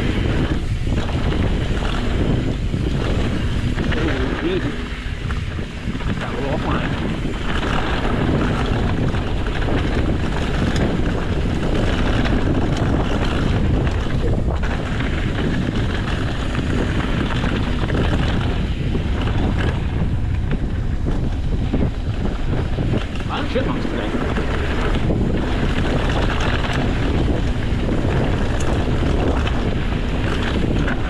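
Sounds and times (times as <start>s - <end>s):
bike clicks and rattles: 0.0s - 31.0s
mountain bike rumbling downhill: 0.0s - 31.0s
wind buffeting microphone: 0.0s - 31.0s.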